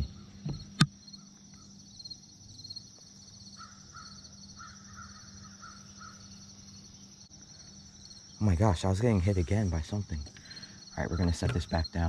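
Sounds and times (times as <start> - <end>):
faint bird calls: 0.0 - 2.2, 3.0 - 12.0.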